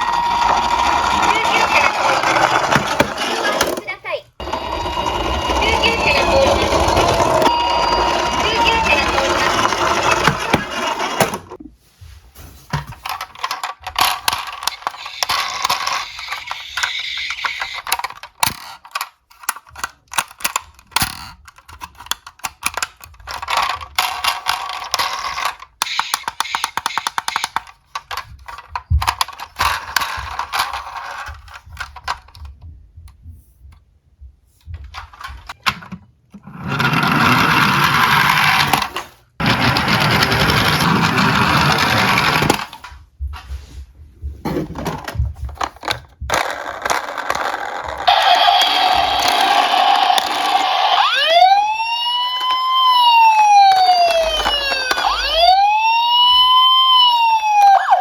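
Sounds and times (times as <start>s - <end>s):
toy cars clacking together: 0.0s - 11.6s, 12.9s - 32.5s, 36.8s - 42.9s, 44.9s - 57.8s
toy cars rolling and rattling: 0.0s - 11.6s, 12.7s - 32.6s, 35.0s - 43.0s, 44.7s - 58.0s.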